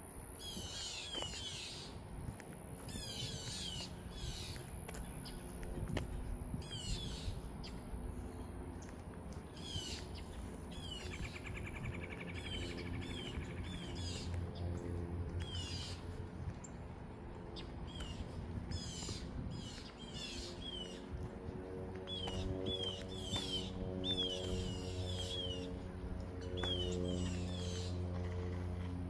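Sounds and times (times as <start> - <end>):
songbirds chirping: 0.2 - 29.0.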